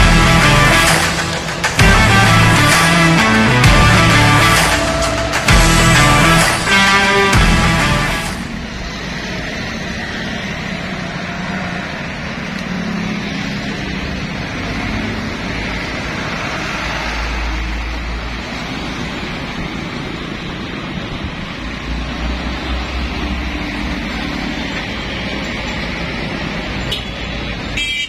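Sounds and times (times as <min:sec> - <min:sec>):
heavy trucks deep rumble: 0:00.0 - 0:27.8
trucks and motorbikes passing: 0:00.0 - 0:28.0.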